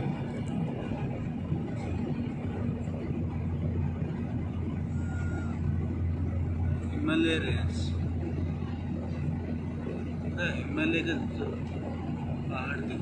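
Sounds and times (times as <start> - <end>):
constant low hum: 0.0 - 13.0
jet engine drone in cabin: 0.0 - 13.0.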